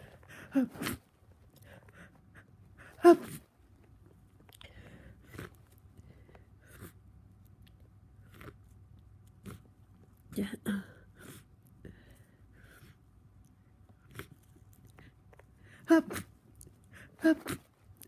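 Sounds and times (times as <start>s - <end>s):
faint breath and nose sounds: 0.0s - 18.0s.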